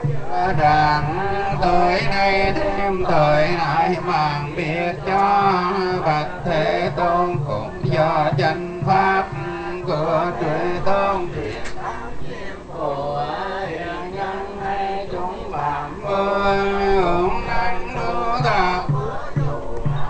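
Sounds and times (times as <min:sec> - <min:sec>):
men chanting melodically: 0:00.0 - 0:20.0.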